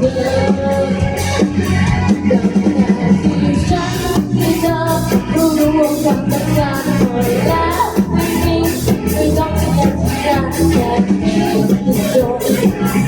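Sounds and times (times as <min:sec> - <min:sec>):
bass: 0:00.0 - 0:13.0
drums: 0:00.0 - 0:13.0
person singing: 0:00.0 - 0:13.0.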